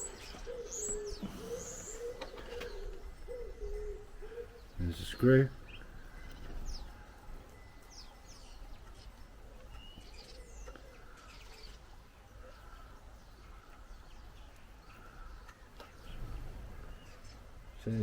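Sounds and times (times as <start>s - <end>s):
small birds chirping faintly: 0.0s - 18.0s.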